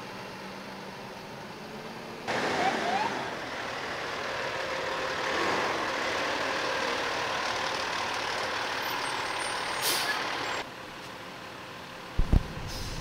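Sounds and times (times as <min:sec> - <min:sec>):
heavy truck engines: 0:00.0 - 0:13.0.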